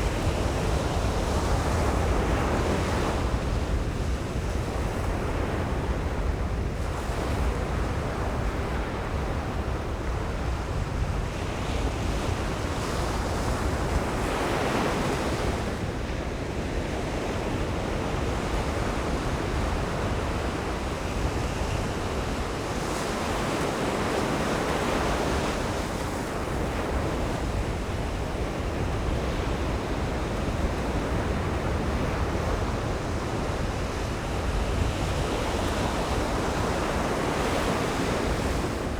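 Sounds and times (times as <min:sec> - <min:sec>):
ocean surf breaking on beach: 0:00.0 - 0:38.9
wind buffeting microphone: 0:00.0 - 0:38.9.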